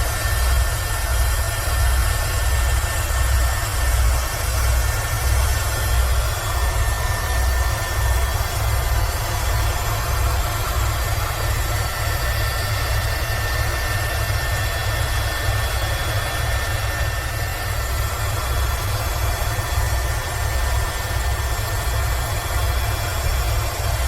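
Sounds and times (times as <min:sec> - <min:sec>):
helicopter rotor and engine rumble: 0:00.0 - 0:24.0
turbine whine: 0:00.0 - 0:24.0.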